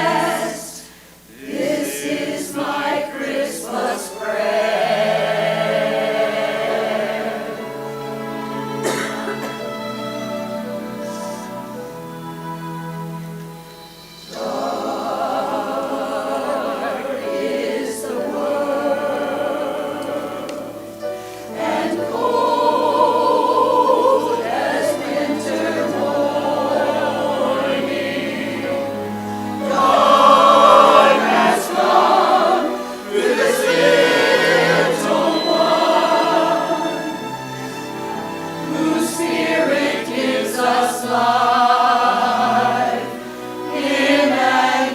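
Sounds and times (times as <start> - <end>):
church choir singing: 0.0 - 44.9.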